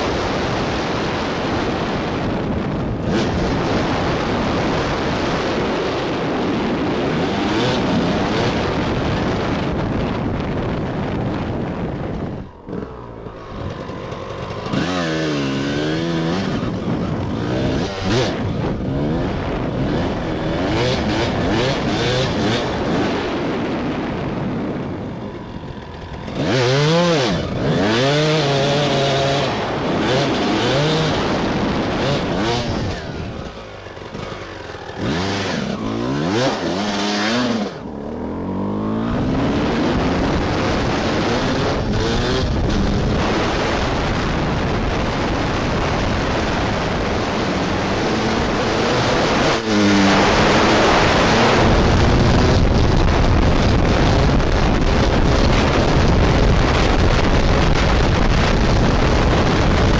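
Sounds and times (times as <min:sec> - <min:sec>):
motocross engine revving: 0:00.0 - 0:59.9
wind on microphone: 0:00.0 - 0:59.9.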